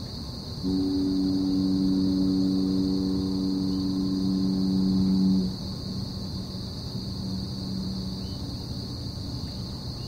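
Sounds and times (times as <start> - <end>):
crickets chirping: 0.0 - 10.0
low foghorn blast: 0.6 - 9.3.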